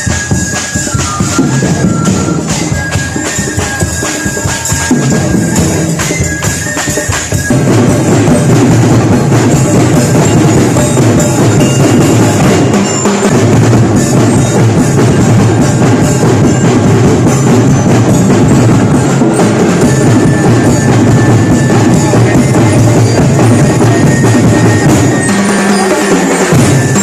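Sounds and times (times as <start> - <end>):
loud music with drums: 0.0 - 27.0.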